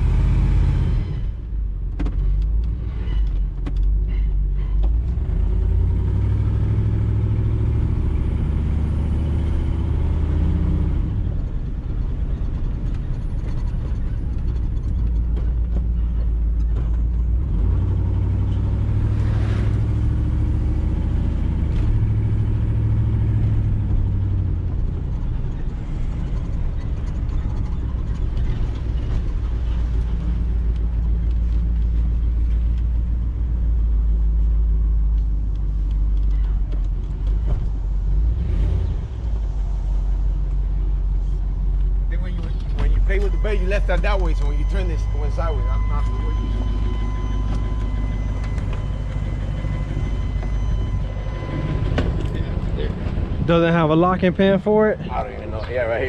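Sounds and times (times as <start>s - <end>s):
truck engine running: 4.9s - 56.0s.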